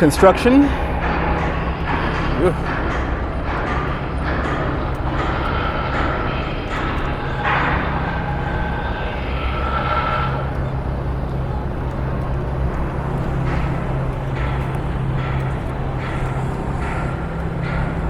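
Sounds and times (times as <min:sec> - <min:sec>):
heavy machinery engines droning: 0:00.0 - 0:18.0
high-pitched machine tones: 0:00.0 - 0:18.0
loud construction noise: 0:00.0 - 0:18.0.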